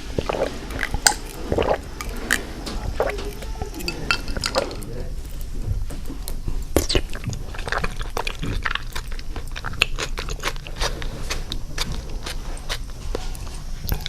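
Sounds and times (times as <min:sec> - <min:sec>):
chewing and biting crunches: 0:00.0 - 0:05.5, 0:06.3 - 0:14.0.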